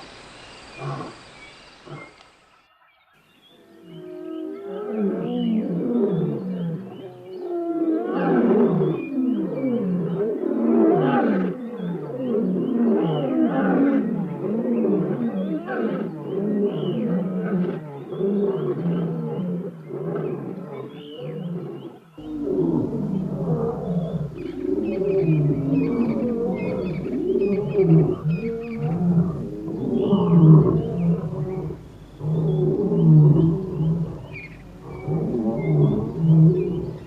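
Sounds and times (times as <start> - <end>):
lions roaring: 0.7 - 1.2, 3.7 - 37.0.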